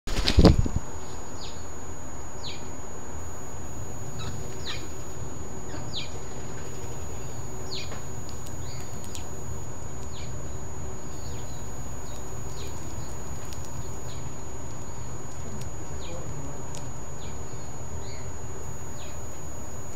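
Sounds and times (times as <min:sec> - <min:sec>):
low background rumble: 0:00.5 - 0:19.9
birds chirping: 0:01.0 - 0:19.9.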